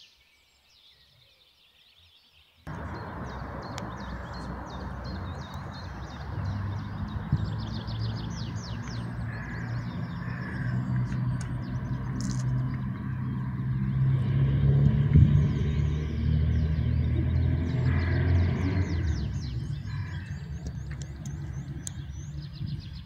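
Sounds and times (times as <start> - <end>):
small birds chirping: 0.0 - 23.0
low engine hum: 2.7 - 23.0.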